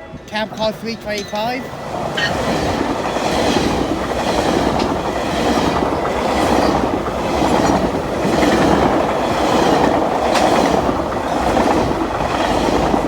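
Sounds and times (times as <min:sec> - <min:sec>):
train wheels rumbling on rail: 0:00.0 - 0:13.0
wheels clicking over rail joints: 0:00.4 - 0:13.0.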